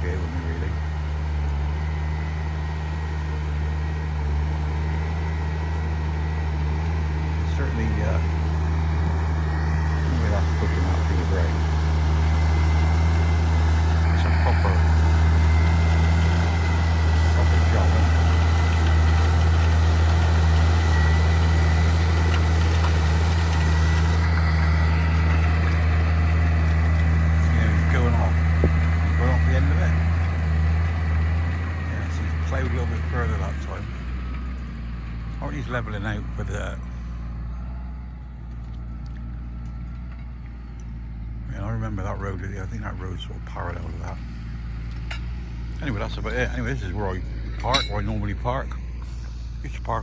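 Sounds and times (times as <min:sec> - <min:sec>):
low engine hum: 0:00.0 - 0:50.0.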